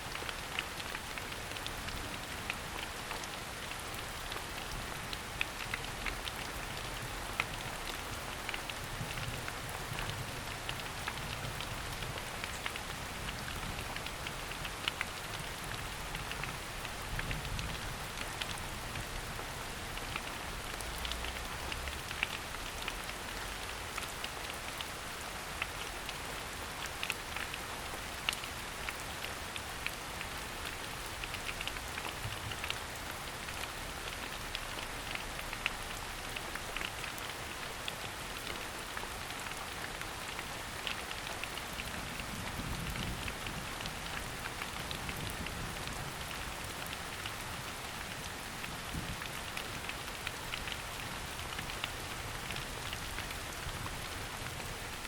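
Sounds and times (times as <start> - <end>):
raindrops ticking close by: 0.0 - 55.0
steady rain hiss: 0.0 - 55.0.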